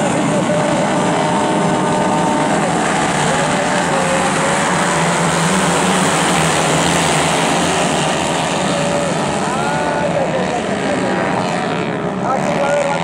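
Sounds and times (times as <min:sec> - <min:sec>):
motorcycles accelerating: 0:00.0 - 0:13.0.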